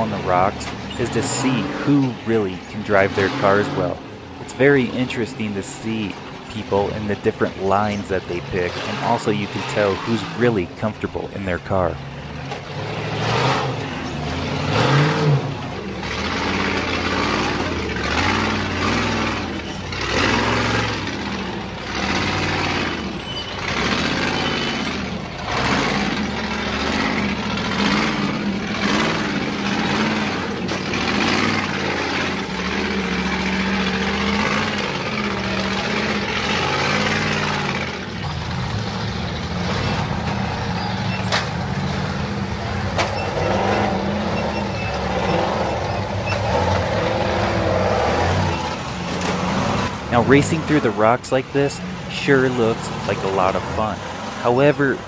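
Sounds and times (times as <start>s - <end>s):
racing car engines revving: 0.0s - 55.0s.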